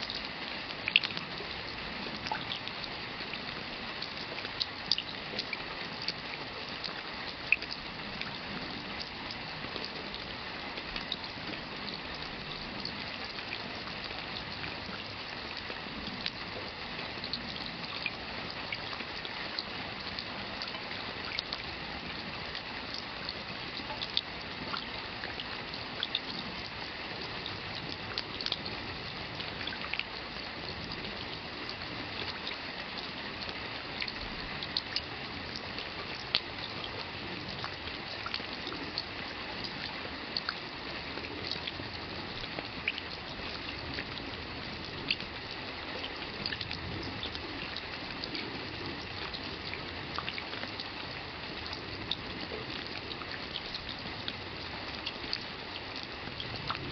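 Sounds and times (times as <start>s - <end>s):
raindrops splashing and dripping: 0.0s - 56.9s
steady rain: 0.0s - 56.9s.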